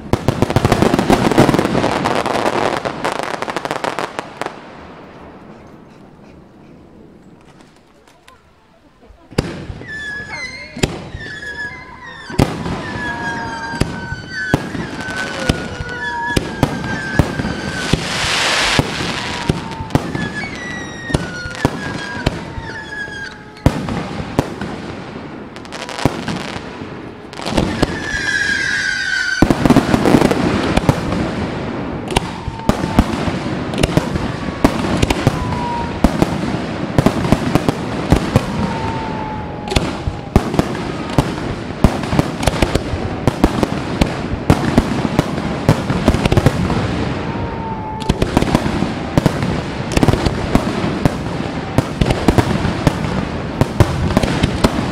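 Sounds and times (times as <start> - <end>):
fireworks bangs and crackling: 0.0 - 8.3, 9.1 - 54.9
fireworks whistles: 9.4 - 54.9.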